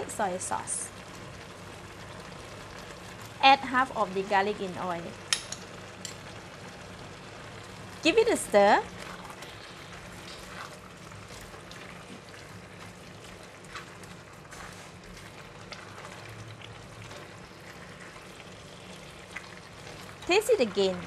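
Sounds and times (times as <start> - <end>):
food sizzling and bubbling in pan: 0.0 - 21.0.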